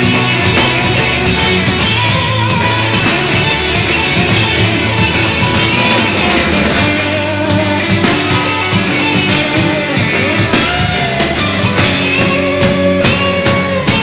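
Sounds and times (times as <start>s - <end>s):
bass guitar: 0.0s - 14.0s
drums: 0.0s - 14.0s
electric guitar: 0.0s - 14.0s.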